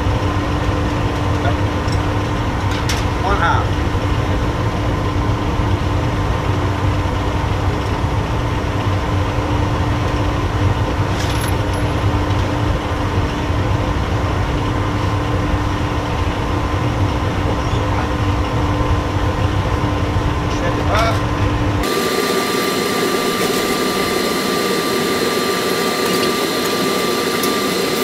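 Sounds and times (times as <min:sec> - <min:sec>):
foundry machinery humming: 0:00.0 - 0:28.0.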